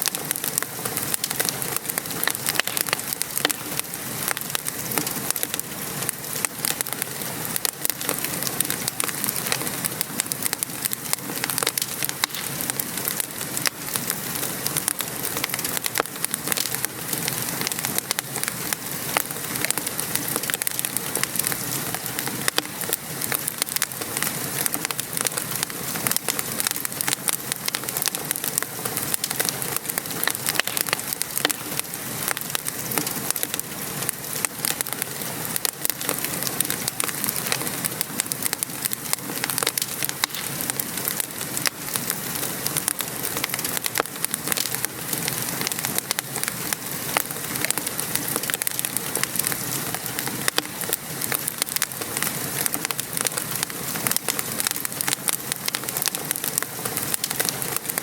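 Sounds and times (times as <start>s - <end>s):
gentle rain pattering: 0.0s - 58.0s
wood fire crackling: 0.0s - 58.0s.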